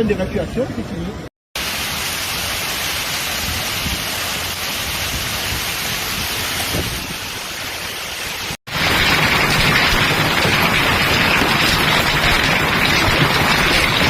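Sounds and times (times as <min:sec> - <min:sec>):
water rushing: 0:01.6 - 0:14.0.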